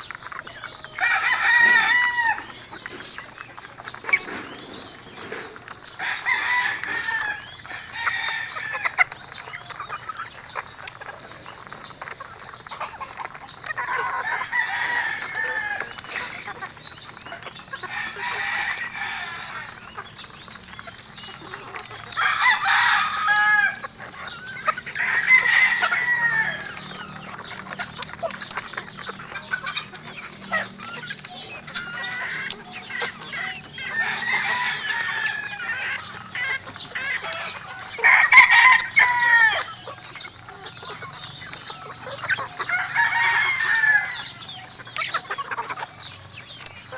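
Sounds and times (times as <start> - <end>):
beaks pecking at trough: 0.0 - 46.9
chickens clucking: 0.0 - 46.9
roosters crowing: 0.0 - 46.9.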